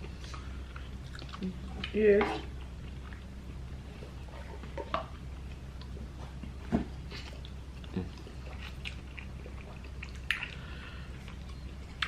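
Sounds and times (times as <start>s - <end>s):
steady low hum: 0.0s - 12.0s
wet mouth clicks and chewing: 0.2s - 3.3s, 4.6s - 12.0s.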